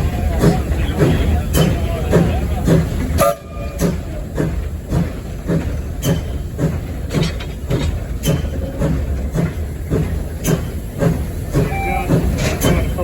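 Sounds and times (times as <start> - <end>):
steam locomotive rhythmic rumble: 0.0 - 13.0.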